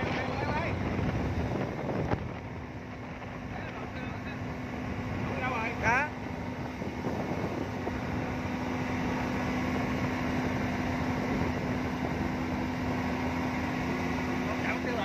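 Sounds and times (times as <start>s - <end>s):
motorboat engine hum: 0.0s - 15.0s
water rushing around hull: 0.0s - 15.0s.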